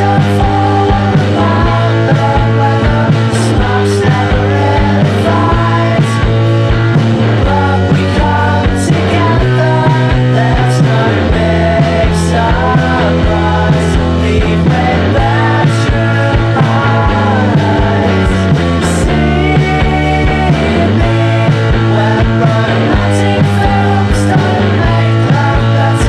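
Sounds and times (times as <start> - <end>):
drums keeping a steady beat: 0.0 - 26.0
low bass notes: 0.0 - 26.0.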